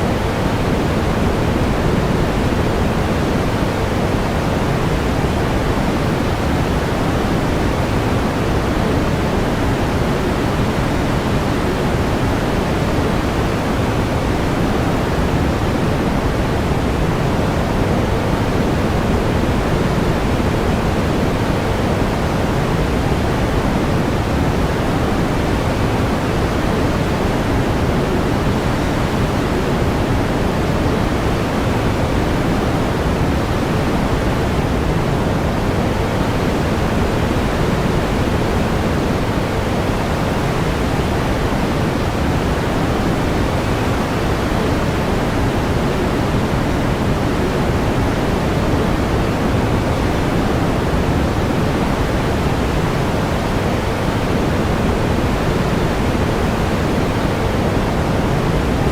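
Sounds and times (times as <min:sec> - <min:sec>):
steady pink noise hiss: 0:00.0 - 0:58.9.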